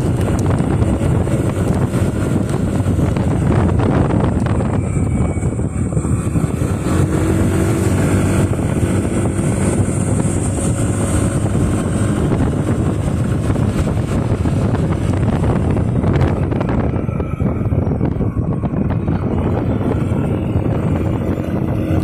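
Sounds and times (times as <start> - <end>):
motorcycle engine running: 0.0 - 22.0
road and wind noise: 0.0 - 22.0.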